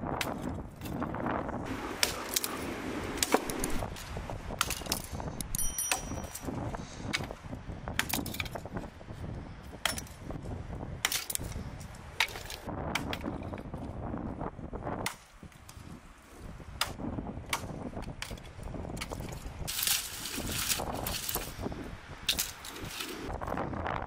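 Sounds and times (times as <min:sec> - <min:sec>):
hatchet chopping firewood: 0:00.0 - 0:08.9, 0:09.6 - 0:13.7, 0:14.9 - 0:15.9, 0:16.6 - 0:21.6, 0:22.2 - 0:23.4.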